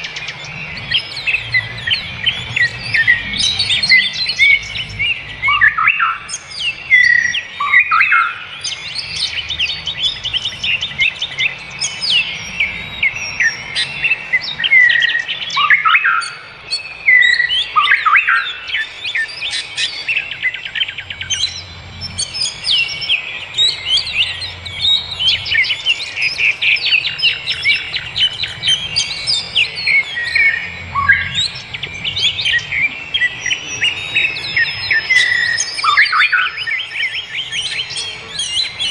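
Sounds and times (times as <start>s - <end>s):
forest birds singing and chirping: 0.0s - 38.9s.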